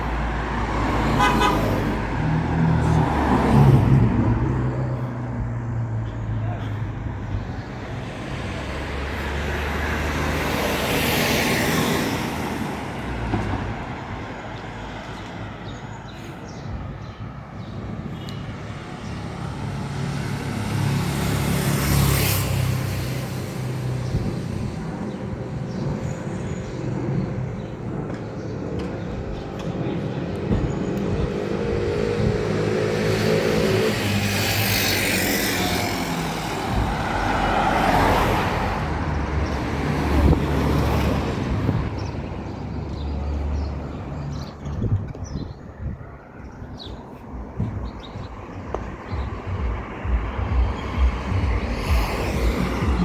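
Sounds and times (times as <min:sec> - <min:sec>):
steady engine hum: 0:00.0 - 0:45.0, 0:47.0 - 0:53.0
vehicles passing: 0:00.0 - 0:53.0.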